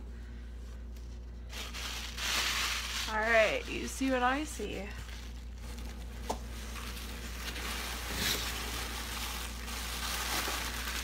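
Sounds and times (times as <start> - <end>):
packing peanuts and cardboard rustling: 1.1 - 11.0.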